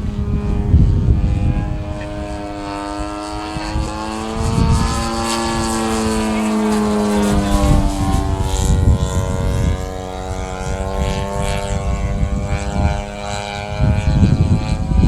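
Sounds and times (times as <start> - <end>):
model plane motor drone: 0.0 - 15.0
wind buffeting microphone: 0.0 - 15.0.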